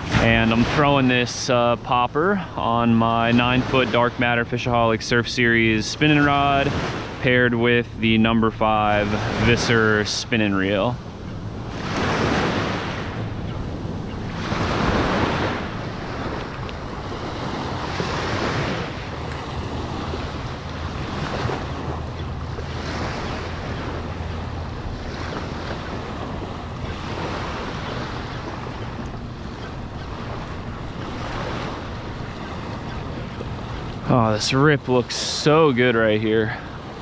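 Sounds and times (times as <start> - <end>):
small waves breaking on beach: 0.0 - 37.0
wind rumbling on microphone: 0.0 - 37.0.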